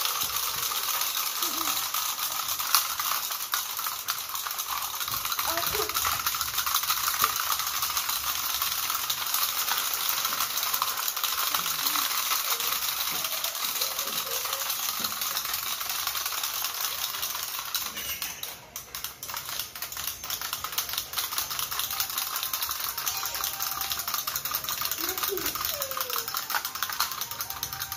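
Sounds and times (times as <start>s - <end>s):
wind-up toys clicking and tapping: 0.0s - 27.9s.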